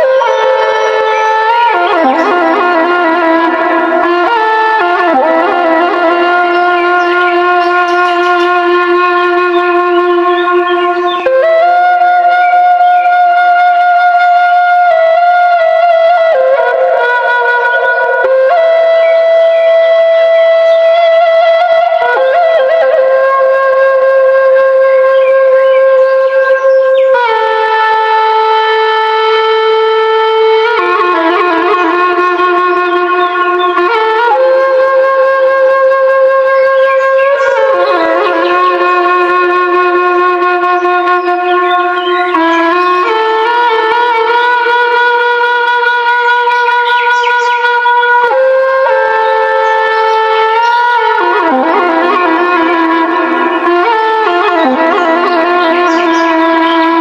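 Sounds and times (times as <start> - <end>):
wind instrument long notes: 0.0 - 57.0.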